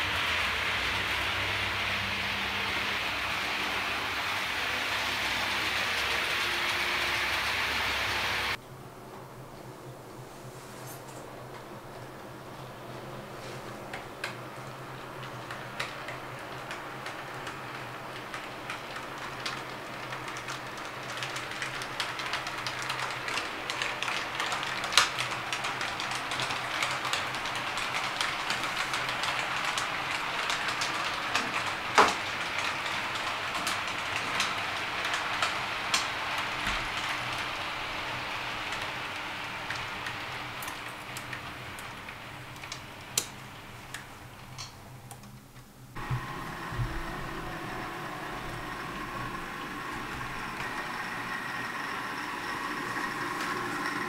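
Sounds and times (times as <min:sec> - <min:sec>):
model train wheels rattling on rail: 0:00.0 - 0:08.6, 0:13.8 - 0:44.8, 0:46.8 - 0:54.0.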